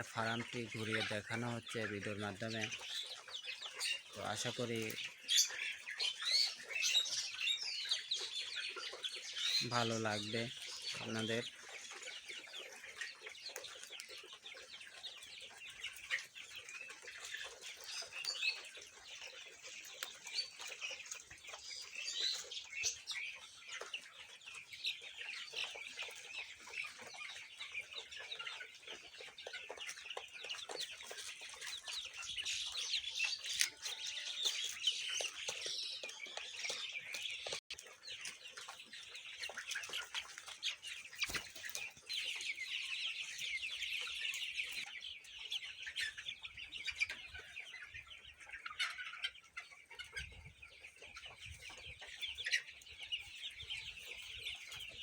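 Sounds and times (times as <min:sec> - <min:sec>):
chickens peeping and clucking: 0:00.0 - 0:55.0.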